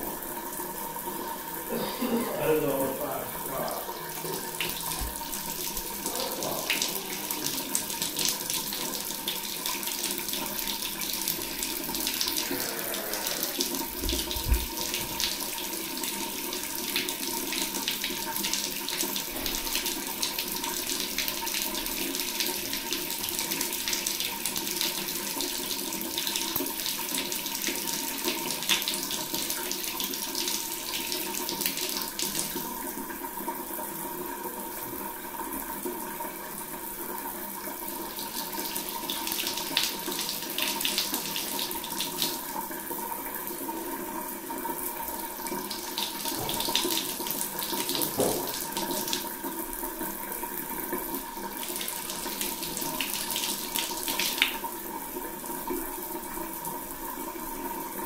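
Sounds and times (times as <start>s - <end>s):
shower water splashing on tiles: 0.0s - 34.0s, 37.9s - 44.0s, 44.6s - 57.0s.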